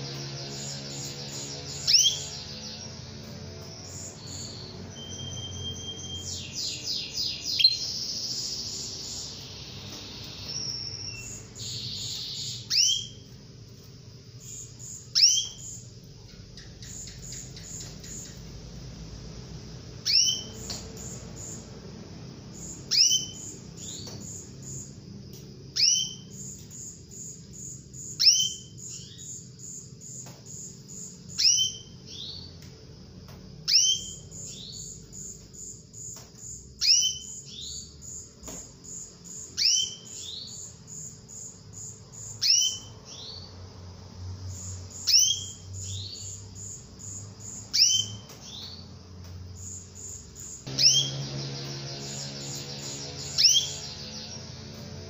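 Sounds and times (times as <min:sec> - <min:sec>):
canary calling: 0:00.0 - 0:19.0, 0:19.9 - 0:25.0, 0:25.7 - 0:32.6, 0:33.6 - 0:38.2, 0:38.8 - 0:43.7, 0:44.5 - 0:49.0, 0:49.6 - 0:55.0.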